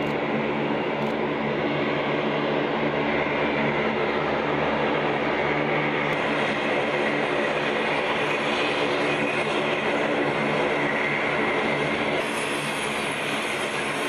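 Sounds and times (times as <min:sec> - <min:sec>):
turboprop aircraft taxiing drone: 0:00.0 - 0:14.0.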